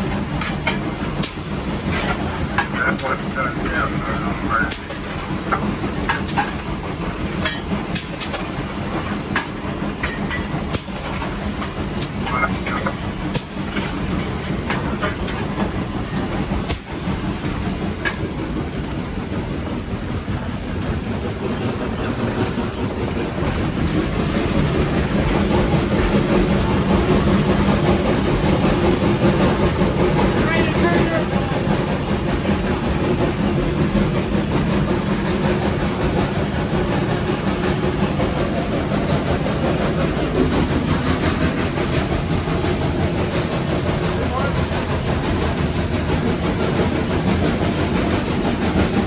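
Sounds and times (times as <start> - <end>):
rail clatter: 0.0 - 49.0
steam locomotive rumble and hiss: 0.0 - 49.0.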